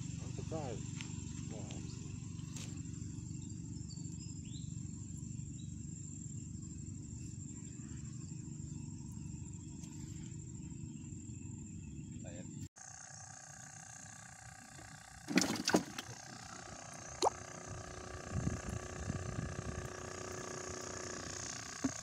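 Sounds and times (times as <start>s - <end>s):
insect trilling: 0.0s - 22.0s.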